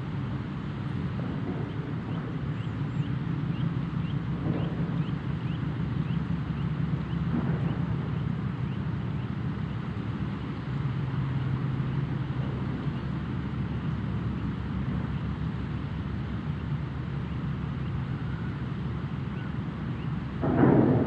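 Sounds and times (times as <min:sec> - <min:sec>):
low rumble with deep hum: 0:00.0 - 0:21.0.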